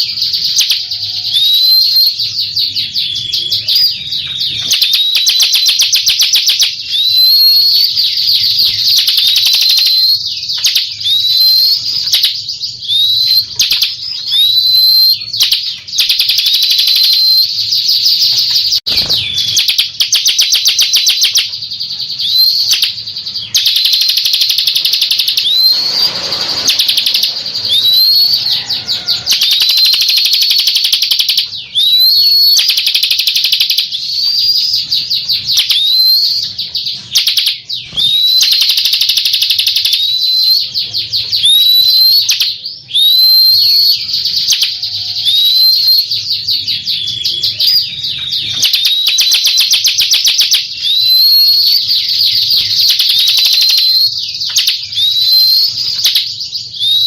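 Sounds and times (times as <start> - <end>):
bird singing rattling trill: 0.0 - 57.0.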